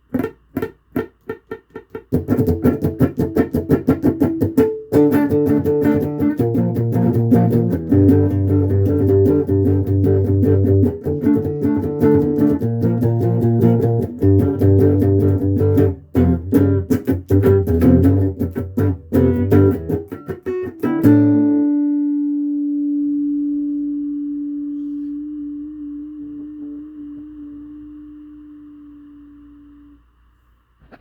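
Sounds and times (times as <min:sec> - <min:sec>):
music of plucked notes: 0:00.0 - 0:27.9.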